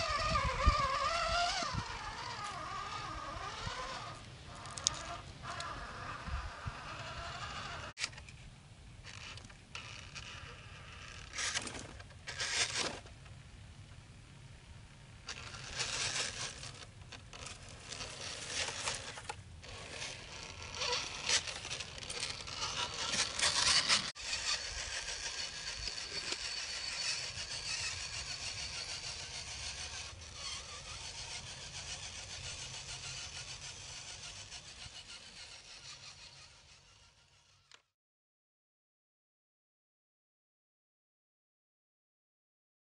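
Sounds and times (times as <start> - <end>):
faint motor whine: 0.0 - 37.9.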